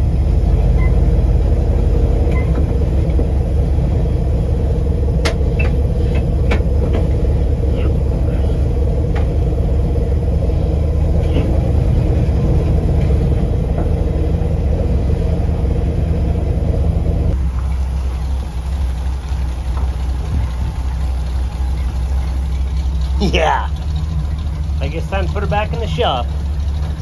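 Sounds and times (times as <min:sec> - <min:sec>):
pickup truck engine rumbling: 0:00.0 - 0:27.0.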